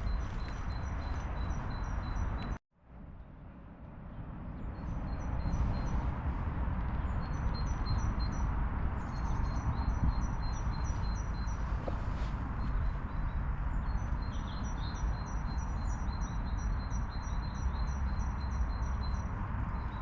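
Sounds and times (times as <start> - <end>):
low rush of outdoor noise: 0.0 - 20.0.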